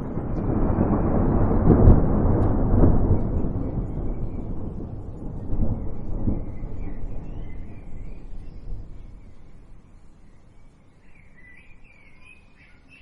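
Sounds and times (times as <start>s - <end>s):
rolling thunder: 0.0s - 10.7s.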